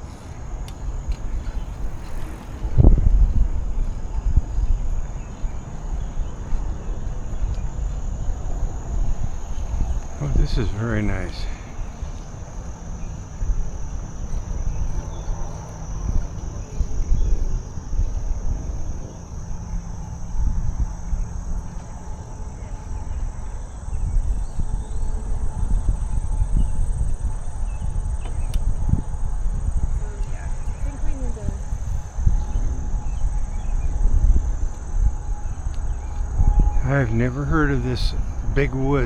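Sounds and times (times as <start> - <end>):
bicycle riding noise: 0.0 - 39.0
insects singing: 0.0 - 39.0
wind rumble: 0.0 - 39.0.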